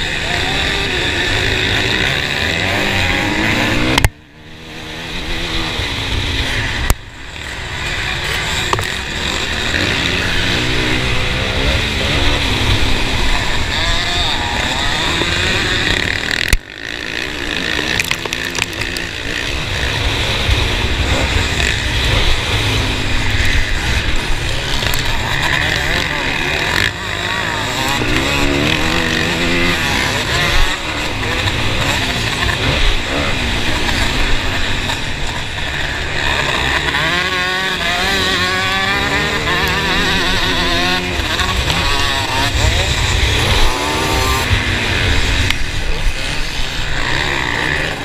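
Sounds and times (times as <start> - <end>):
motocross bike engines revving: 0.0 - 48.0.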